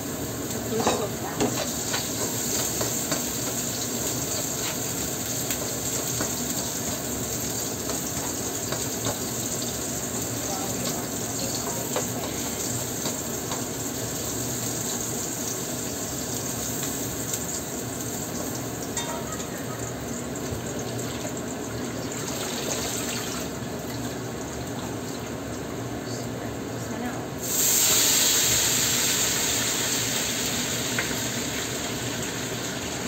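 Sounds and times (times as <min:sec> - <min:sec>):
garlic sizzling in a wok: 0:00.0 - 0:33.0.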